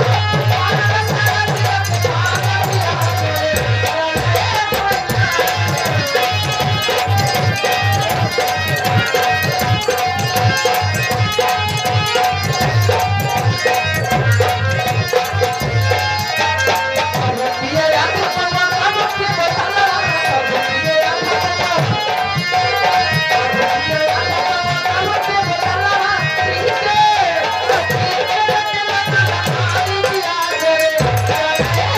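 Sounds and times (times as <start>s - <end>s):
hand drum beating: 0.0s - 31.9s.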